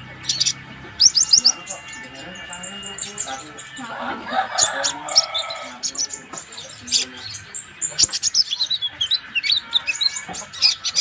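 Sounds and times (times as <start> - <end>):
bird chirping and twittering: 0.0 - 11.0.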